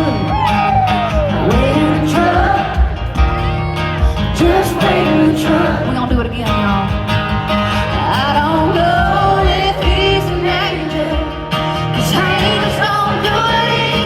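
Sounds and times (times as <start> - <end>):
live country band: 0.0 - 14.0
person singing: 0.0 - 14.0.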